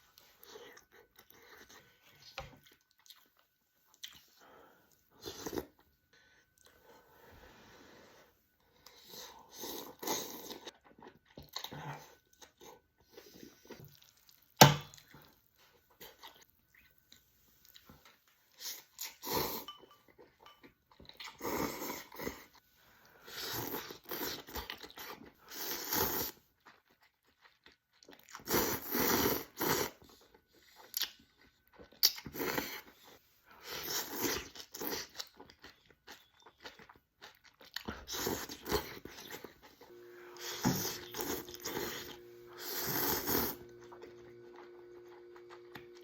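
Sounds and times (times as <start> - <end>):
noodles being chewed: 0.1 - 7.0, 8.6 - 46.0.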